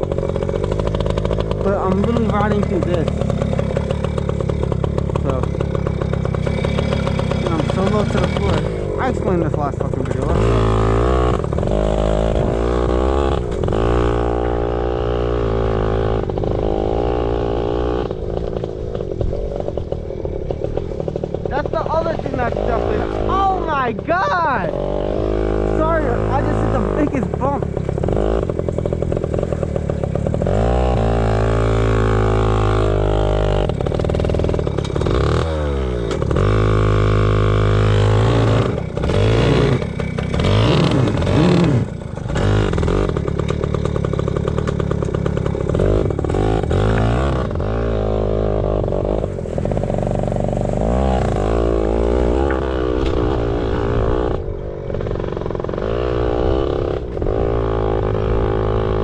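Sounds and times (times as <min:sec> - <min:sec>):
two-stroke motorcycle engine: 0:00.0 - 0:59.0.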